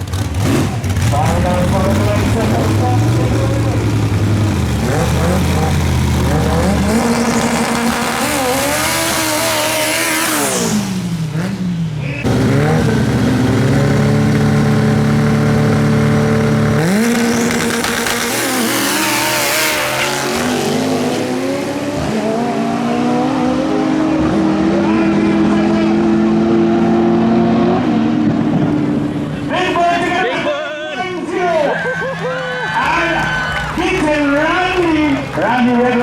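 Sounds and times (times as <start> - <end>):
drag racing engines revving: 0.0 - 36.0.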